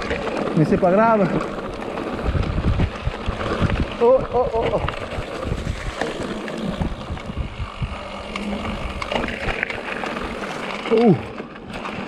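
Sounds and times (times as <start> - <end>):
bike tyre rumble: 0.0 - 12.0
wind on microphone: 1.4 - 11.2.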